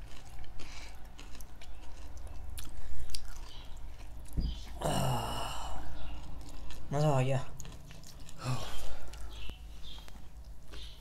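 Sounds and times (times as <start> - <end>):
chewing and biting: 0.0 - 4.8, 5.6 - 11.0.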